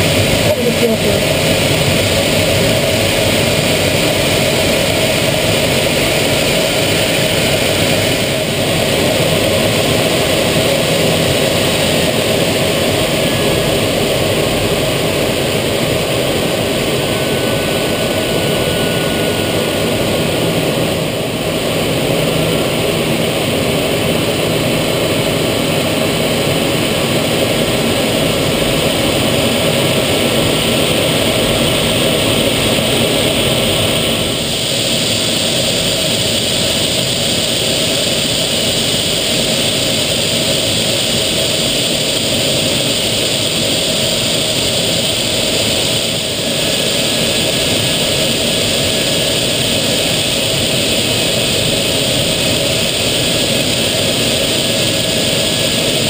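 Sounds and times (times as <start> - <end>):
airflow over canopy: 0.0 - 56.0
jet engine rushing: 0.0 - 56.0.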